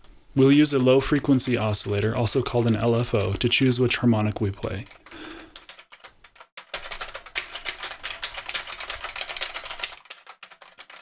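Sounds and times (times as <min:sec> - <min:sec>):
typing on a keyboard: 0:00.7 - 0:11.0.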